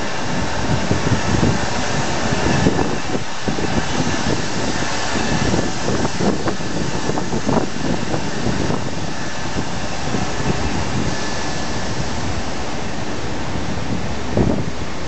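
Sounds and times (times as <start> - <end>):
faint steady whine: 0.0 - 15.0
machinery noise: 0.0 - 15.0
wind buffeting microphone: 0.0 - 15.0.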